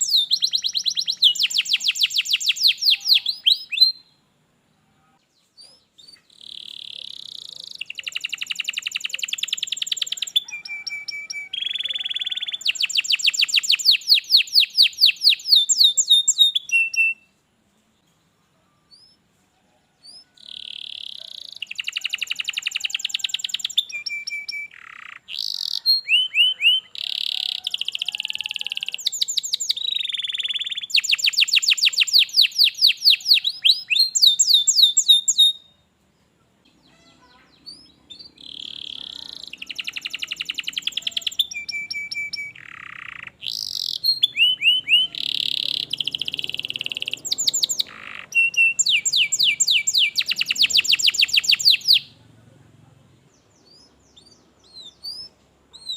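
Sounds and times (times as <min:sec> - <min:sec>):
canary singing trills: 0:00.0 - 0:17.4, 0:18.2 - 0:19.4, 0:20.0 - 0:35.9, 0:36.5 - 0:52.3, 0:53.3 - 0:55.9.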